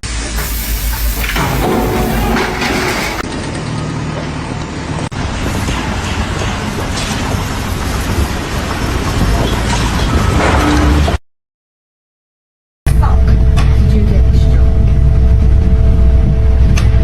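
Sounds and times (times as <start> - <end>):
heavy vehicle engines rumbling: 0.2 - 11.2, 12.9 - 17.0.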